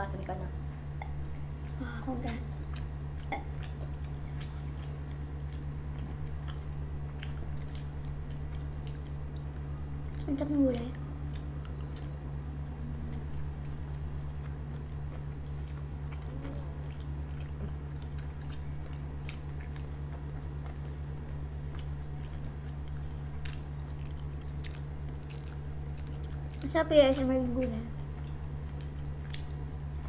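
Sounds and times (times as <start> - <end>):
low hum: 0.0 - 30.0
people chewing food: 0.6 - 30.0.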